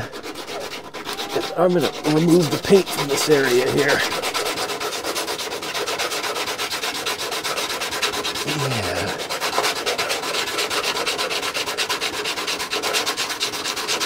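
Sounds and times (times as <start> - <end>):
sandpaper scrubbing metal panel: 0.0 - 14.0.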